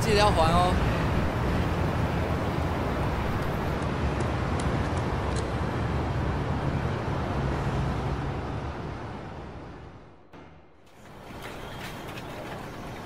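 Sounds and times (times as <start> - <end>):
passing cars rumbling: 0.0 - 13.0.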